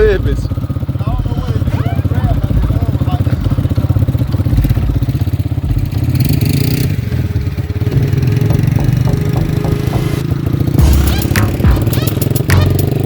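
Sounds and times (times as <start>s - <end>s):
car engine pulsing: 0.6s - 13.0s.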